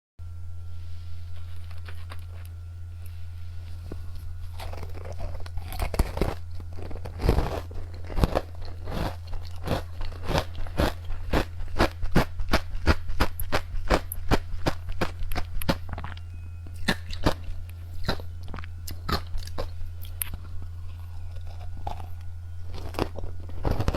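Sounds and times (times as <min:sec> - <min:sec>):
steady low hum: 0:00.2 - 0:23.9
chewing crunchy candy: 0:03.8 - 0:23.9.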